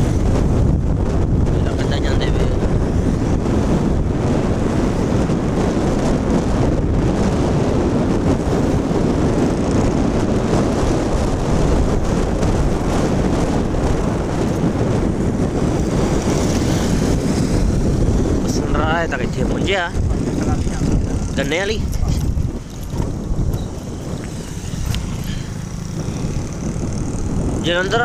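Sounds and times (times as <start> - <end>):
engine and tyre noise: 0.0 - 28.0
wind buffeting microphone: 0.0 - 28.0.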